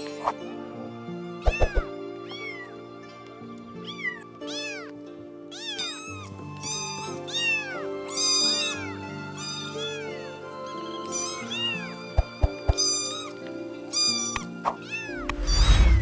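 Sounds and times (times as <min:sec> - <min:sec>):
background music of held notes: 0:00.0 - 0:16.0
cat meowing: 0:01.5 - 0:02.8, 0:03.8 - 0:16.0.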